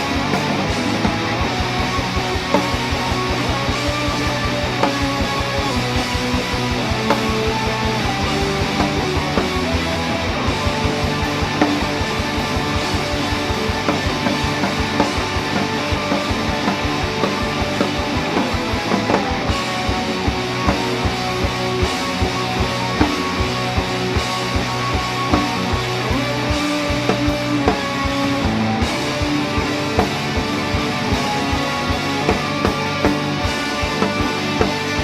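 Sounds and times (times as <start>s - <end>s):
bass guitar: 0.0s - 35.0s
drum kit: 0.0s - 35.0s
electric guitar: 0.0s - 35.0s.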